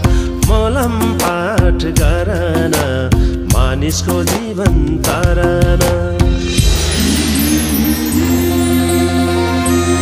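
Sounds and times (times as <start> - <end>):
drum beats: 0.0 - 10.0.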